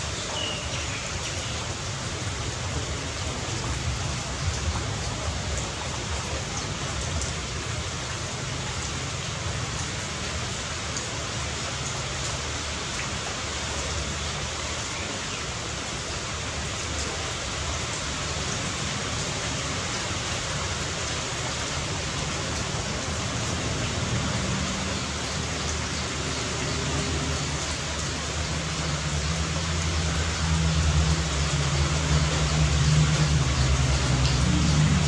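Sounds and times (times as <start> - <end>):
steady rain hiss: 0.0 - 35.0.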